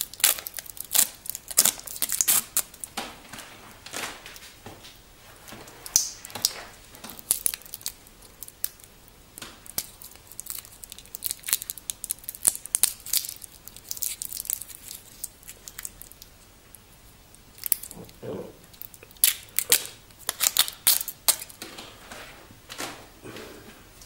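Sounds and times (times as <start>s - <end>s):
plastic wrap crinkling and tearing: 0.0s - 4.6s, 5.3s - 16.4s, 17.5s - 22.2s.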